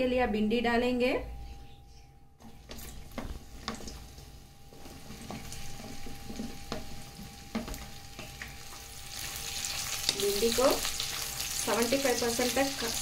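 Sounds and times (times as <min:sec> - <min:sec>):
okra sizzling in oil: 0:02.6 - 0:13.0.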